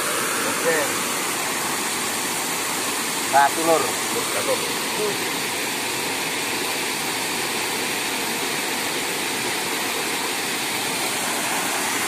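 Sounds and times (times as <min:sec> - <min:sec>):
water rushing over cascade: 0:00.0 - 0:12.0.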